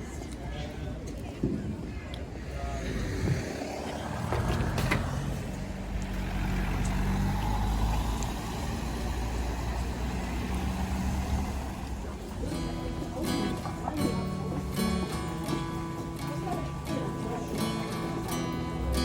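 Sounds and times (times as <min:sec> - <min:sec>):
vehicle engine running: 0:02.6 - 0:18.2.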